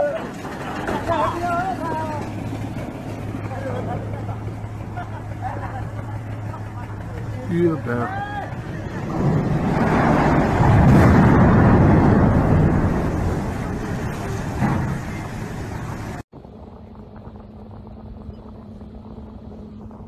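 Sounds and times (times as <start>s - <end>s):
huge splash roaring: 0.0s - 16.2s
low rumble: 0.2s - 20.0s.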